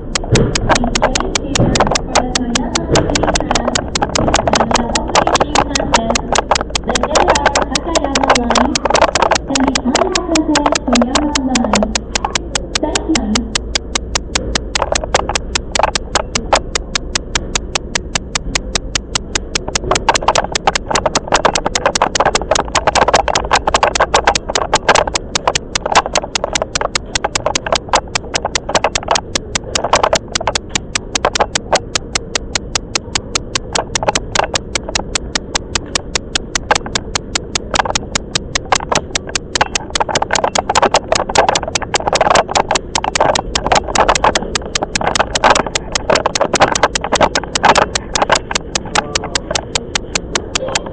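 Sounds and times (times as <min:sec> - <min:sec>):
electric train running noise: 0:00.0 - 0:50.9
fast even ticking: 0:00.0 - 0:50.9.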